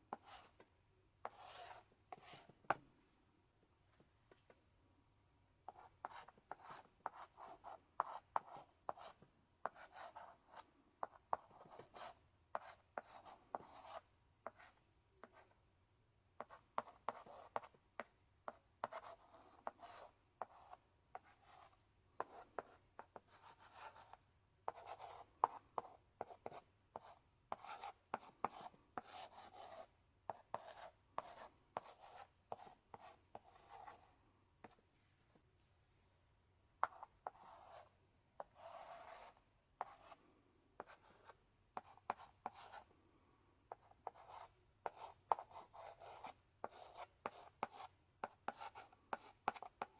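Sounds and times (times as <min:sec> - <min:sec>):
chalk scratching on blackboard: 0:01.2 - 0:02.6, 0:05.7 - 0:15.5, 0:16.4 - 0:17.8, 0:18.5 - 0:34.8, 0:36.8 - 0:40.2, 0:40.8 - 0:42.9, 0:43.7 - 0:49.9.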